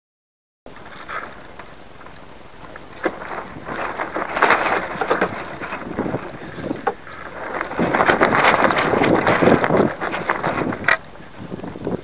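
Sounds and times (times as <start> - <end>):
wind buffeting microphone: 0.7 - 12.0.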